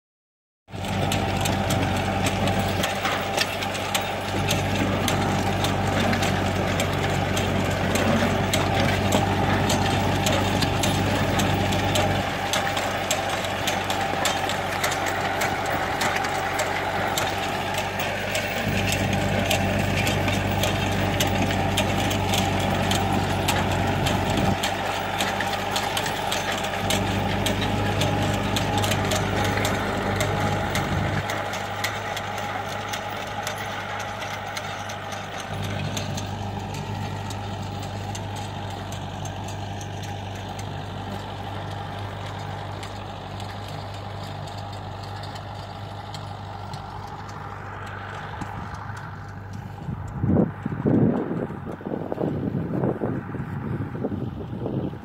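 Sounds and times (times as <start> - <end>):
tractor engine running: 0.7 - 55.0.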